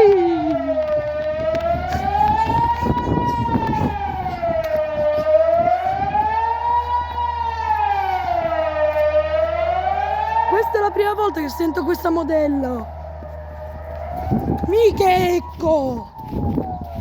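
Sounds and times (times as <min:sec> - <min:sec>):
wailing siren: 0:00.0 - 0:17.0.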